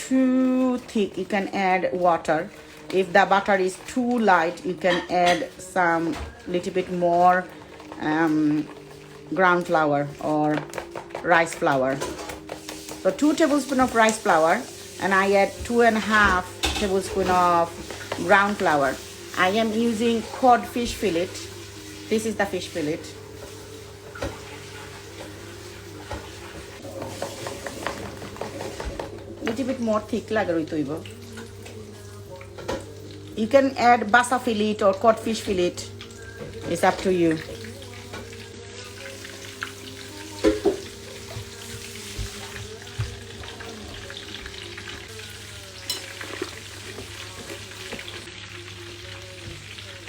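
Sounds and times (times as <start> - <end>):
fish frying in oil: 0.0 - 50.0
batter being stirred: 0.2 - 50.0.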